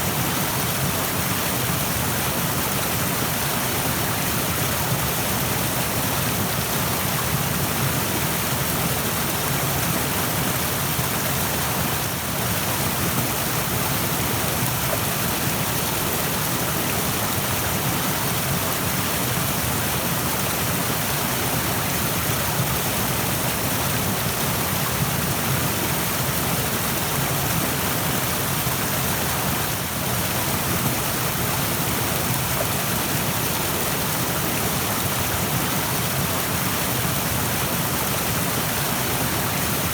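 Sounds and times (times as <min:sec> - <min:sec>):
rushing stream: 0:00.0 - 0:39.9.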